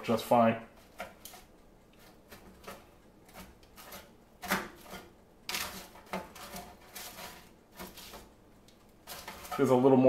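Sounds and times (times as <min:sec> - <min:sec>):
knife scraping and tapping on foil: 0:00.7 - 0:09.8.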